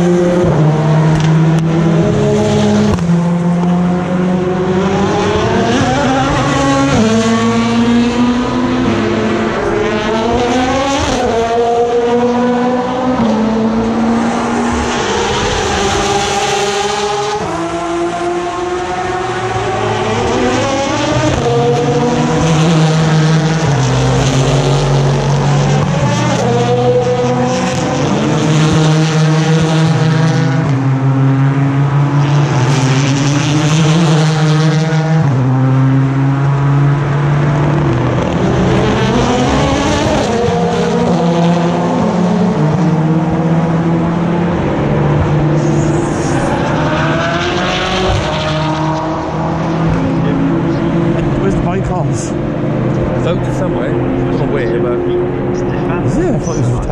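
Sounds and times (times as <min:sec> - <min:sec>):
race car engines shifting gears: 0:00.0 - 0:56.9.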